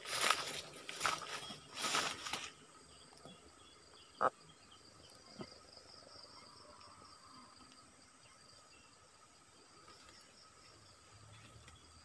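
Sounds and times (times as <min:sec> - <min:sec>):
insects buzzing in grass: 0:00.0 - 0:12.0.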